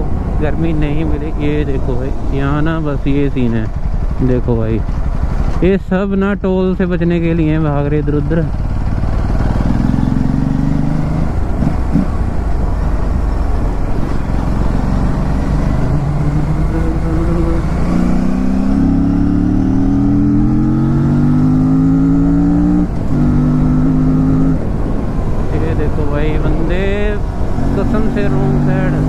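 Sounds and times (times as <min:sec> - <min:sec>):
motorcycle engine rumbling: 0:00.0 - 0:29.0.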